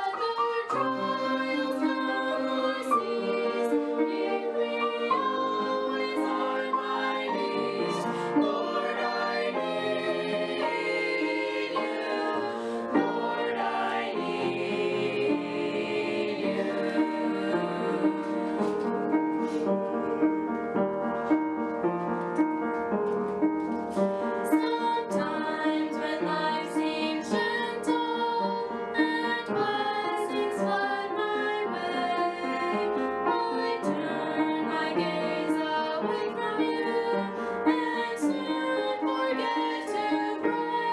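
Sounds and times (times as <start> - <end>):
group singing sacred song: 0.2 - 19.8, 24.5 - 40.9.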